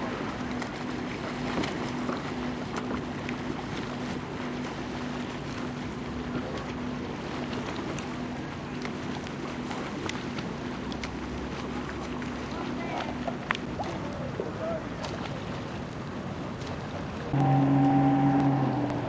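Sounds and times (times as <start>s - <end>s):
motorboat engine humming: 0.0s - 19.0s
water noise: 0.0s - 19.0s
wind: 0.0s - 19.0s.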